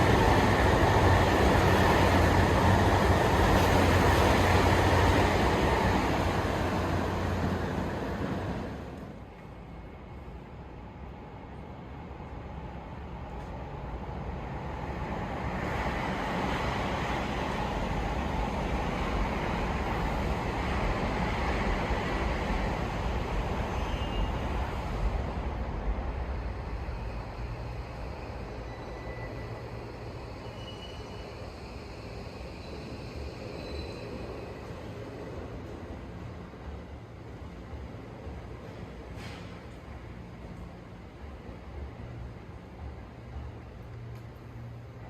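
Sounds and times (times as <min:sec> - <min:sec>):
train passing: 0:00.0 - 0:45.0.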